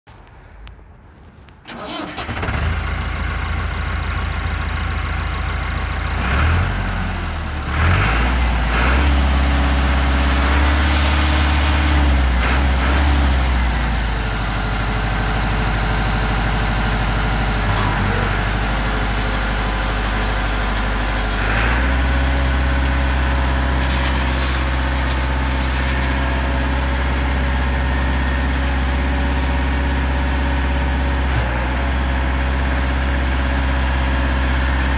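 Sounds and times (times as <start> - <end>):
diesel tractor engine droning: 1.6 - 34.9.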